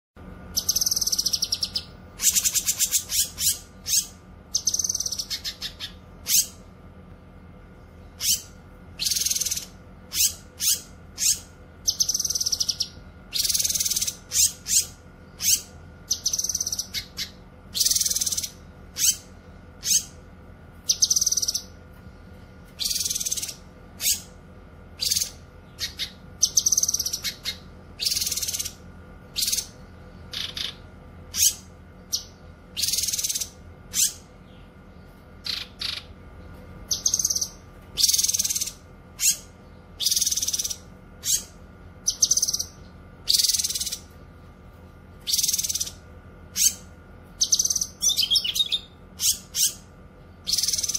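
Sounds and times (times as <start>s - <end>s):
faint steady hum: 0.2s - 50.9s
bird chattering song: 0.5s - 6.7s, 7.8s - 21.8s, 22.6s - 44.2s, 45.2s - 50.9s.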